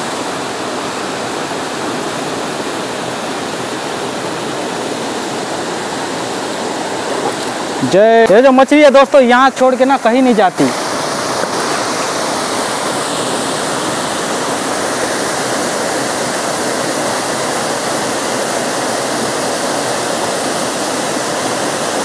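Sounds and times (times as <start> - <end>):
stream and waterfall rushing: 0.0 - 22.0.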